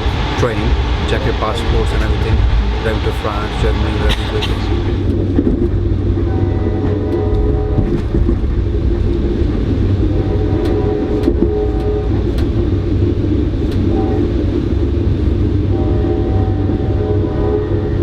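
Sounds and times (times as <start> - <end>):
train rumble from inside coach: 0.0 - 18.0.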